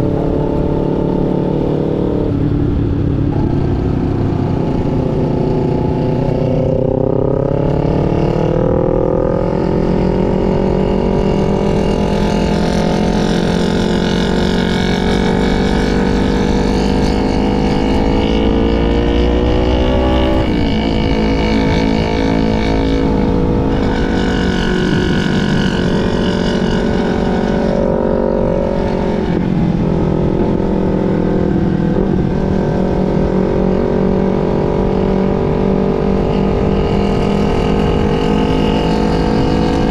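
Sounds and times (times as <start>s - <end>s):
low wind rumble: 0.0s - 39.9s
motorcycle engine accelerating: 0.0s - 39.9s.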